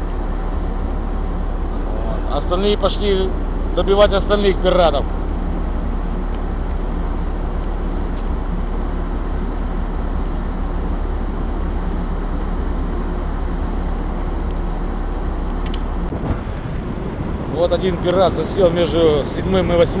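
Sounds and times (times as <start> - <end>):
ship machinery hum: 0.0 - 20.0
wind: 0.0 - 20.0.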